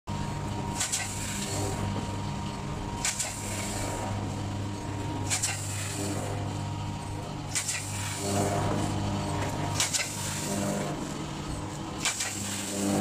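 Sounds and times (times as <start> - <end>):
packing machine humming: 0.1 - 13.0.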